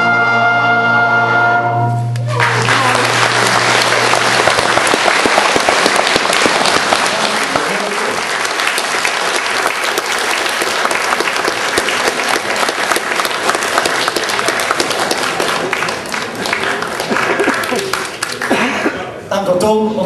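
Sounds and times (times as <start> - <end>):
audience applauding: 2.2 - 18.8.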